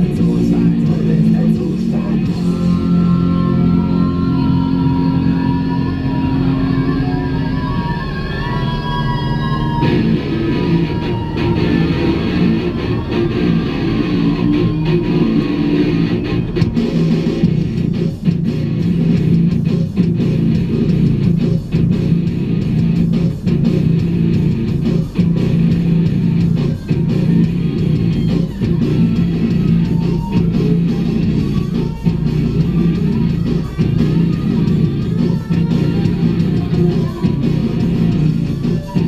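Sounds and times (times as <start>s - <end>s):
rock music with guitar: 0.0s - 39.0s.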